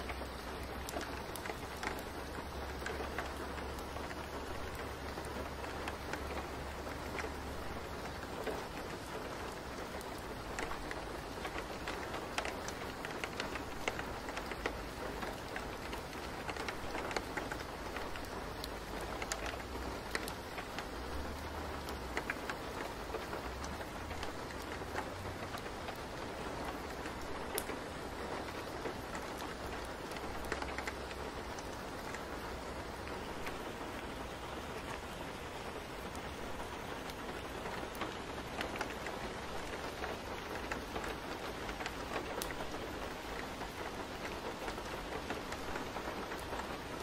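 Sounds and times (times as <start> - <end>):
rain drops ticking: 0.0 - 47.0
steady rain falling: 0.0 - 47.0.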